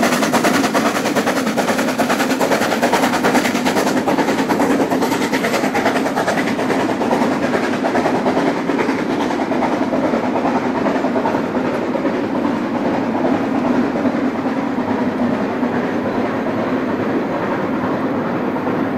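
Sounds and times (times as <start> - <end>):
steam locomotive exhaust beats: 0.0 - 18.9
train wheels clattering over rails: 0.0 - 18.9.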